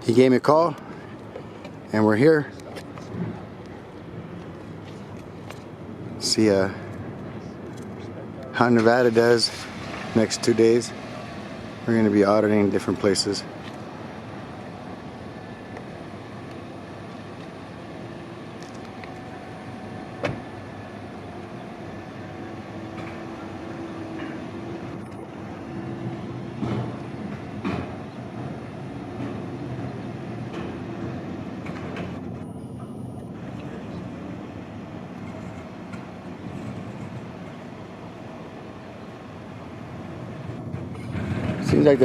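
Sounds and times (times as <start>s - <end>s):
vehicle running: 0.9s - 42.0s.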